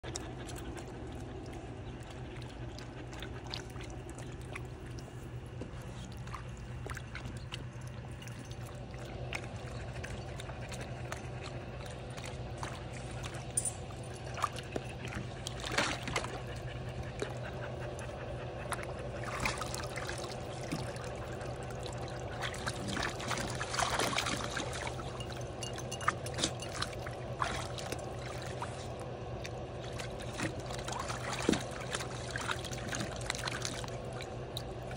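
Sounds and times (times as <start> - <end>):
steady low hum: 0.0 - 34.9
water splashing in pool: 0.0 - 34.9.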